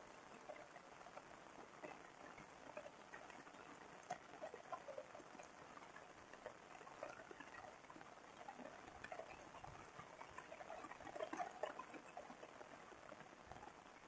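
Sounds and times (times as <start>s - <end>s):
light rain patter: 0.0s - 14.0s.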